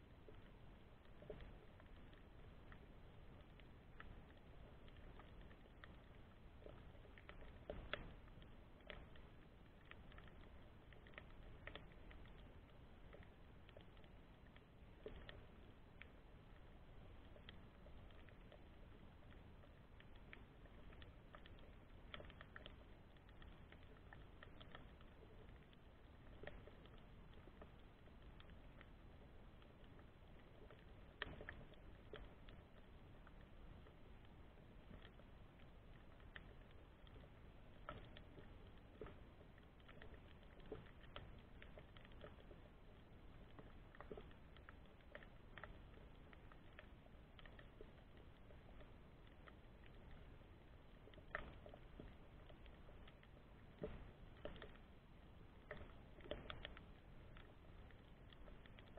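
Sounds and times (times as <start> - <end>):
low steady rumble: 0.0 - 58.9
sharp underwater clicks and crackles: 0.0 - 58.9.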